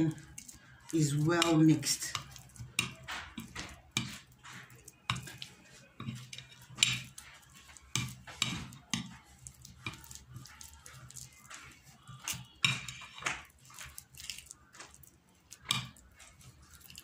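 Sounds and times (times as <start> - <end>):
metal spoon scraping a plate: 0.0 - 14.6, 15.5 - 17.0.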